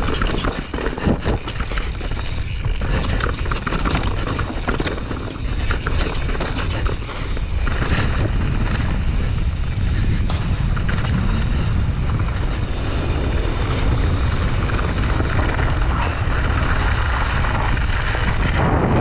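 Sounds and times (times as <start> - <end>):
tyres rolling over gravel: 0.0 - 19.0
wind buffeting microphone: 0.0 - 19.0.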